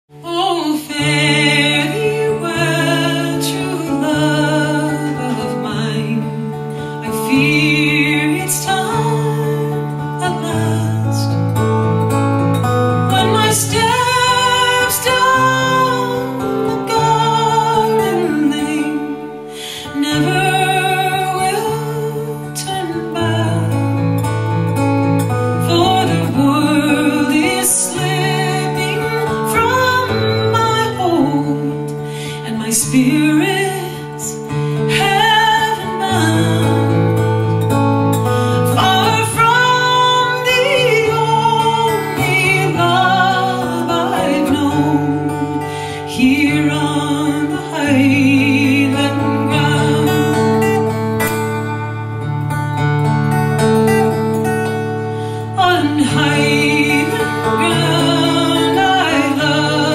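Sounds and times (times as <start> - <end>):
fingerpicked acoustic guitar: 0.1 - 59.9.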